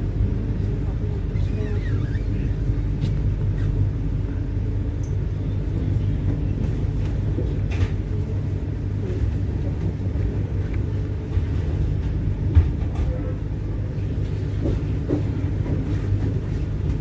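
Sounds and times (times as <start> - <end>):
train carriage rumbling: 0.0 - 17.0.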